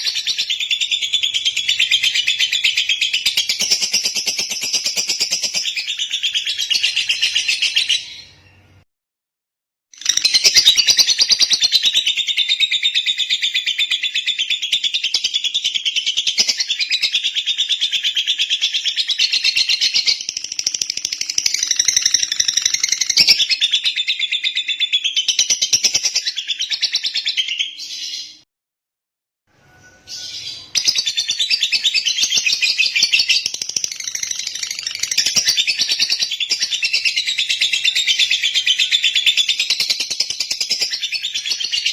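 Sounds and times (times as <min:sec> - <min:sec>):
lovebird chattering song: 0:00.0 - 0:08.4, 0:10.0 - 0:28.4, 0:30.1 - 0:41.9.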